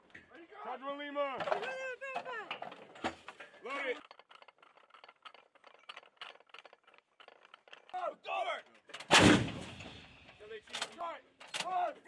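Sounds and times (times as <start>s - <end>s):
metal clicking and scraping: 1.4s - 9.1s, 9.7s - 11.8s.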